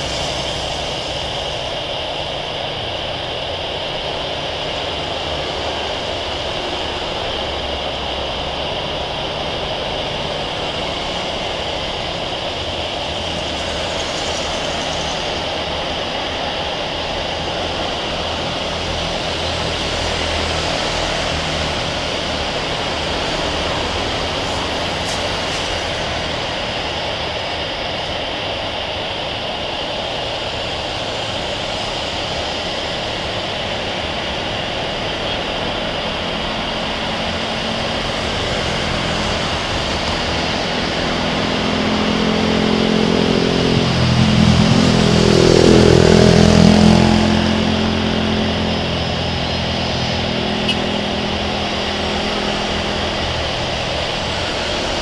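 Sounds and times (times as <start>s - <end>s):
jet engine whine over low rumble: 0.0s - 55.0s.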